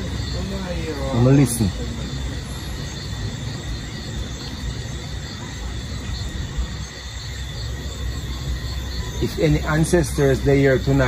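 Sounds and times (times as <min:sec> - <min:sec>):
faint insect trill: 0:00.0 - 0:11.0.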